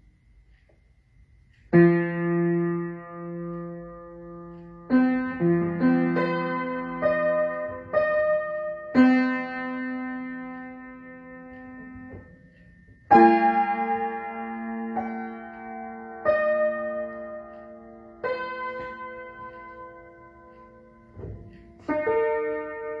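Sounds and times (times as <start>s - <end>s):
piano chords ringing: 1.7s - 23.0s.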